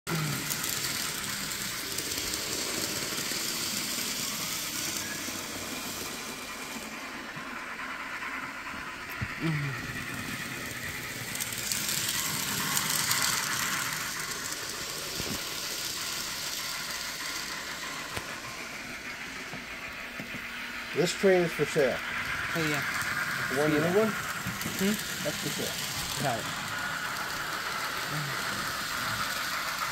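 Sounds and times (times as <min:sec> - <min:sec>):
model train running on track: 0:00.1 - 0:29.9.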